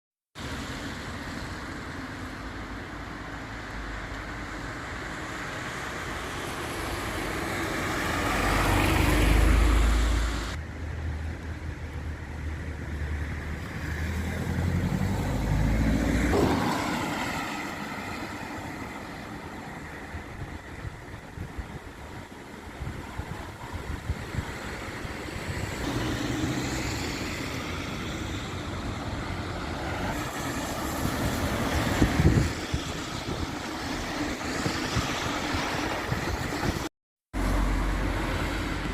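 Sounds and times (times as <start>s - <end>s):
vehicles driving past: 0.4s - 38.9s.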